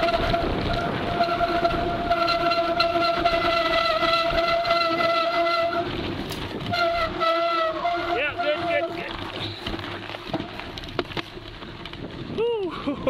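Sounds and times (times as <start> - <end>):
bicycle disc brakes howling: 0.0 - 12.4
tyres rolling: 0.0 - 13.0
wind noise: 0.0 - 13.0.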